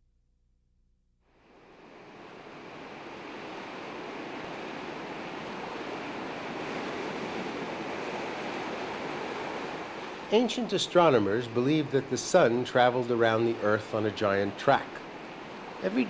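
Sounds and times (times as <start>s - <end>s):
ocean waves washing: 1.4s - 16.0s.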